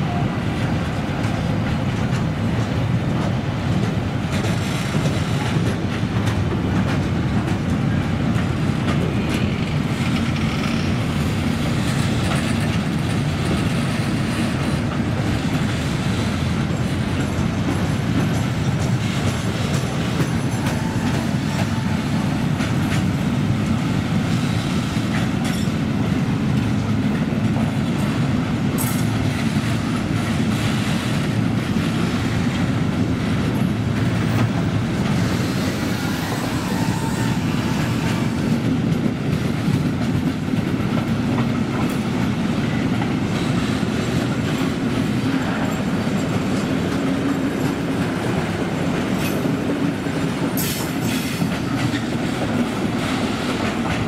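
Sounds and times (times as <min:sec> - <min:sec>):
clickety-clack over rail joints: 0:00.0 - 0:54.0
freight train wheels rumbling: 0:00.0 - 0:54.0.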